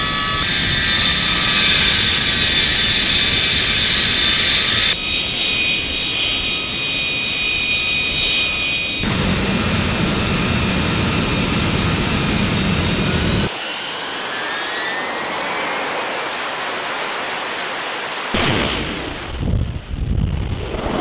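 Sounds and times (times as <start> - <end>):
jet engine roaring and whining: 0.0 - 21.0.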